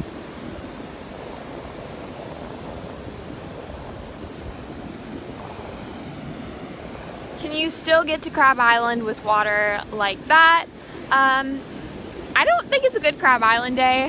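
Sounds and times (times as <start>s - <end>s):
surf waves breaking: 0.0s - 14.0s
wind buffeting microphone: 0.0s - 14.0s.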